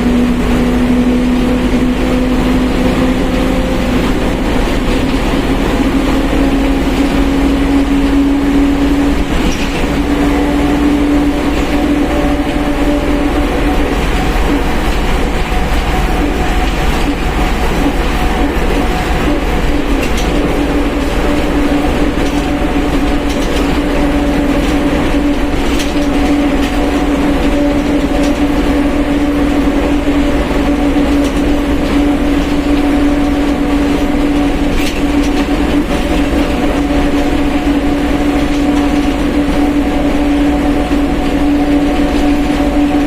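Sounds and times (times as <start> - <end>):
bus differential whining: 0.0 - 43.0
moving bus rumble: 0.0 - 43.0.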